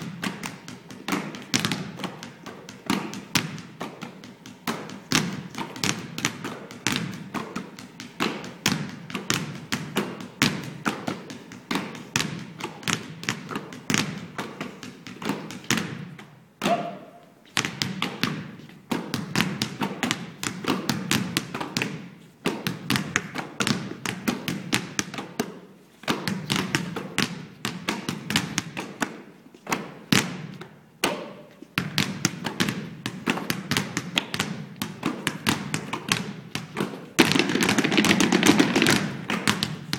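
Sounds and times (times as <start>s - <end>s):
basketballs bouncing on floor: 0.0s - 39.9s.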